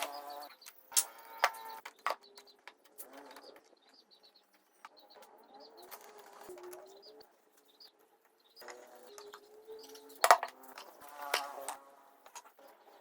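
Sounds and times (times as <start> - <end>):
high bird chirps: 0.0 - 11.7.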